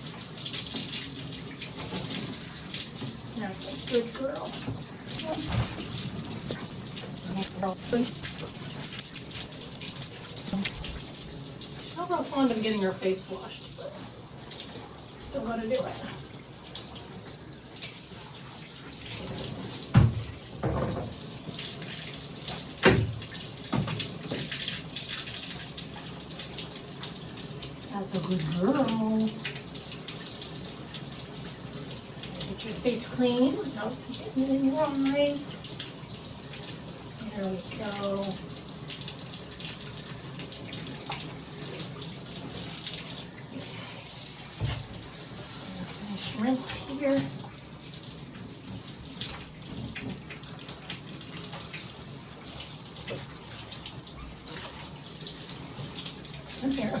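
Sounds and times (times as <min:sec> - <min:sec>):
tap water running into bathtub: 0:00.0 - 0:57.0.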